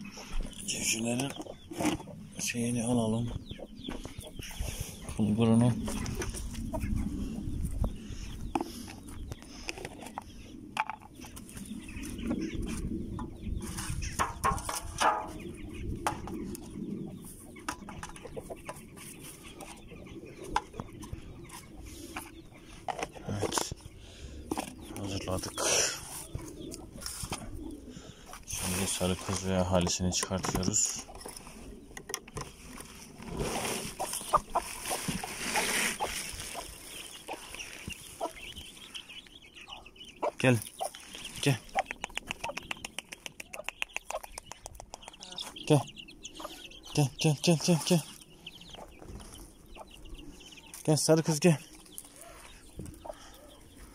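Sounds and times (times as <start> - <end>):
chickens clucking: 0.0 - 53.9.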